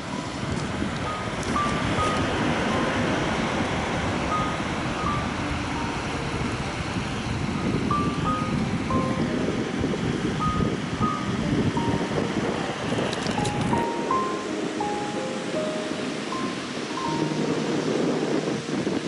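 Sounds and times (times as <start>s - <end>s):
electronic notes tune: 0.0s - 19.0s
sea wind: 0.0s - 19.0s.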